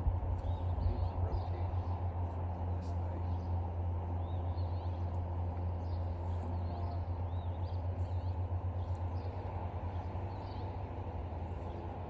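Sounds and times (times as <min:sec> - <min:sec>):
low rumble: 0:00.0 - 0:12.0
small birds chirping: 0:00.3 - 0:02.0, 0:02.8 - 0:12.0.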